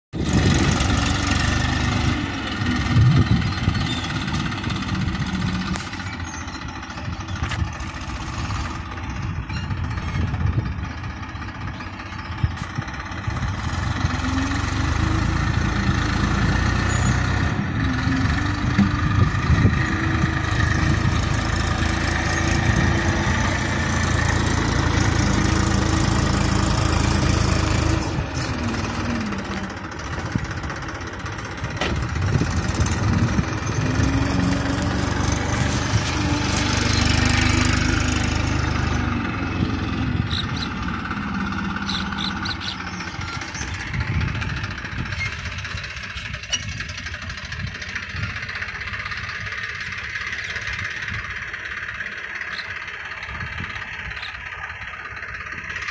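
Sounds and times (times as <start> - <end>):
diesel tractor engine under load: 0.1 - 55.9.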